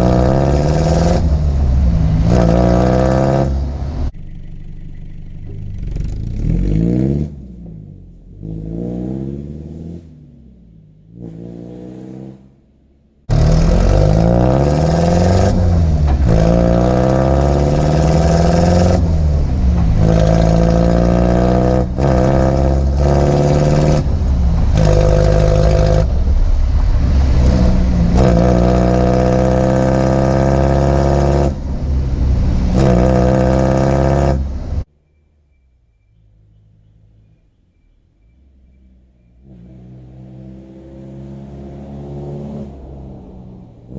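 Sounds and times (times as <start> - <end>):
diesel engine revving: 0.0 - 34.9, 36.6 - 43.9.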